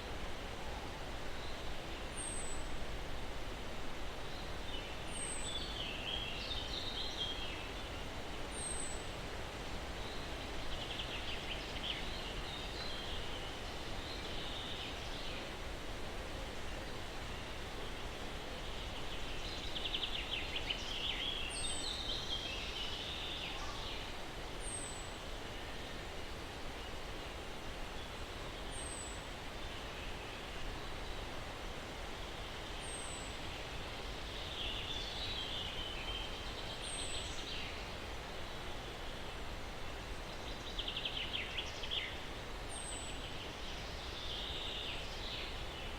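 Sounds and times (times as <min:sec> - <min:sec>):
breeze through pine trees: 0:00.0 - 0:45.9.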